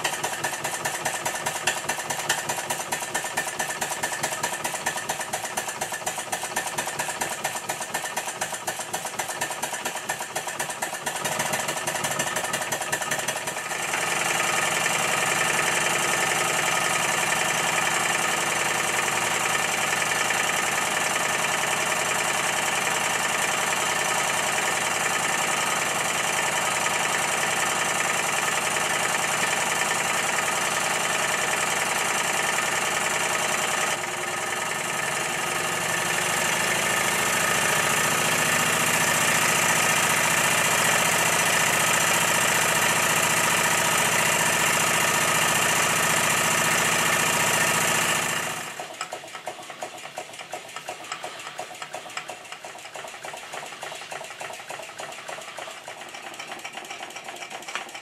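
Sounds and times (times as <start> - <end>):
model steam engine running: 0.0 - 58.0.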